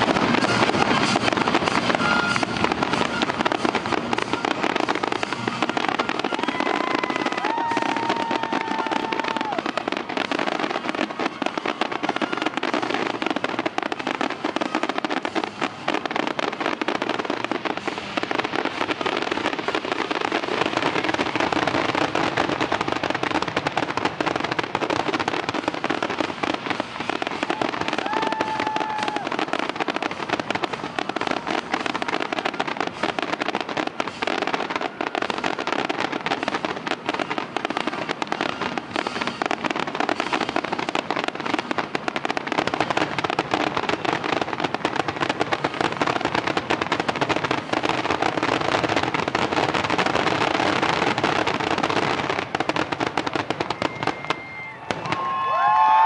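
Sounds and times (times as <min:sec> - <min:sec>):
firework whistle: 0:00.0 - 0:56.0
fireworks bangs and crackling: 0:00.0 - 0:56.0.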